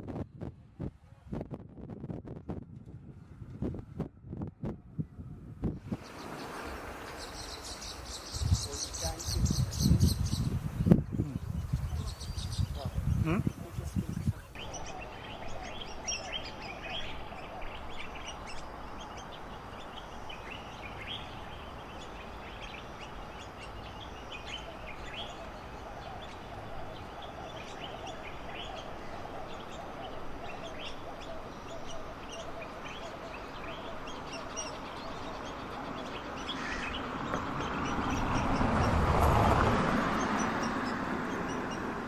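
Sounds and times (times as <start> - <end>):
outdoor background noise: 0.0 - 42.0
birds chirping: 5.9 - 42.0.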